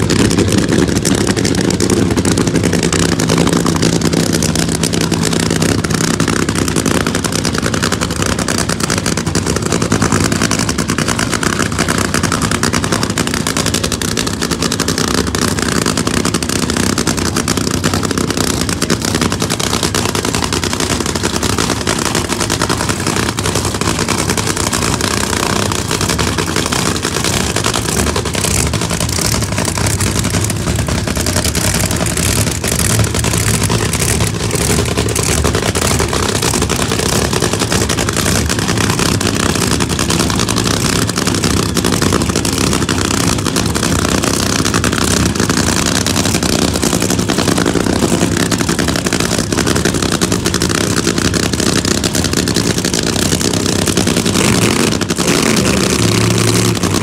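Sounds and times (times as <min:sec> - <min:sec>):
funny car engines idling loudly: 0:00.0 - 0:57.0.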